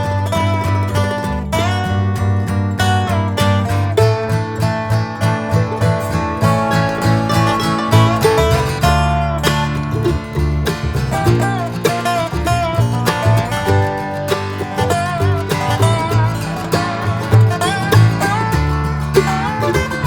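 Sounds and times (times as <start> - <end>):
upbeat bluegrass guitar music: 0.0 - 20.0.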